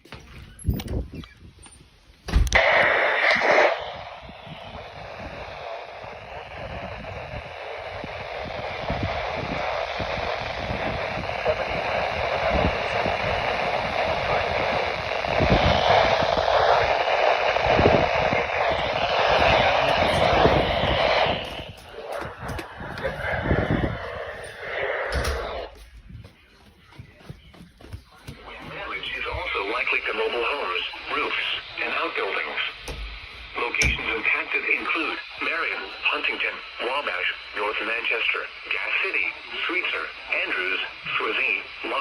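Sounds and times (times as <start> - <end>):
radio static hiss: 2.5 - 42.0.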